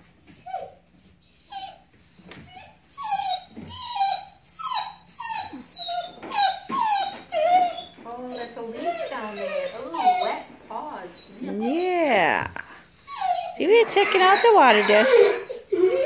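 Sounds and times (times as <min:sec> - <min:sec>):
puppy whining: 0:00.0 - 0:16.0.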